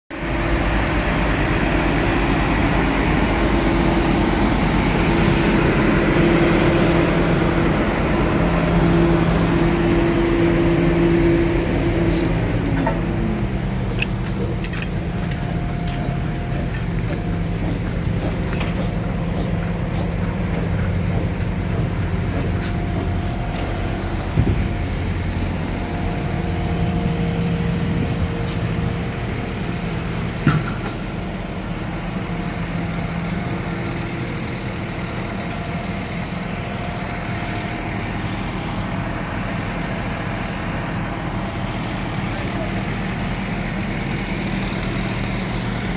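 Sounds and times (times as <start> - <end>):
heavy diesel machinery running: 0.1 - 45.9.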